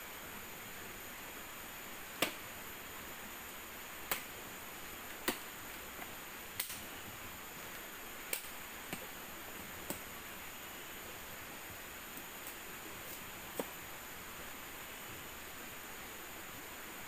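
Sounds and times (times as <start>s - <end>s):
stream hissing: 0.0s - 17.0s.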